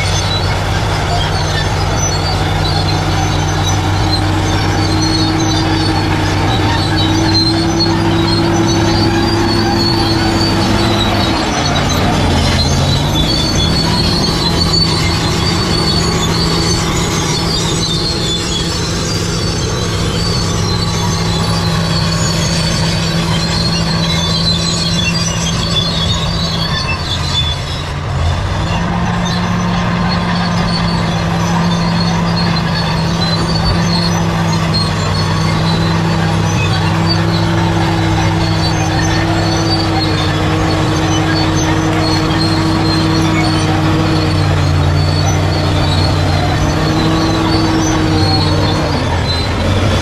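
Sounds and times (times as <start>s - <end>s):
crawler tracks squealing and clattering: 0.0s - 50.0s
diesel engine under load: 0.0s - 50.0s.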